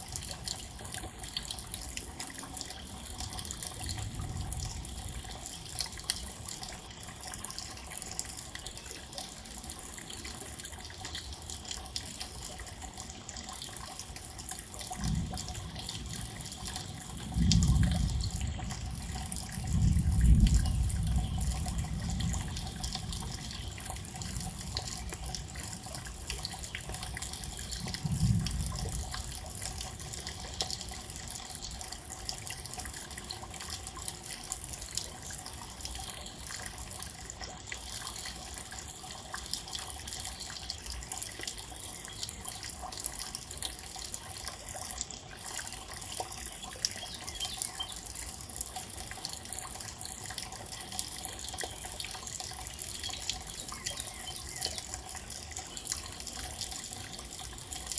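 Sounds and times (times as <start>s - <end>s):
rain falling and dripping: 0.0s - 57.9s.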